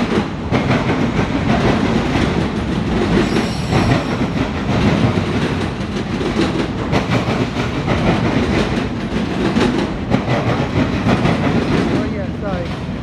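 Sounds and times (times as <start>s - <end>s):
train wheels rumbling on rail: 0.0s - 13.0s
wheels clacking over rail joints: 0.0s - 13.0s.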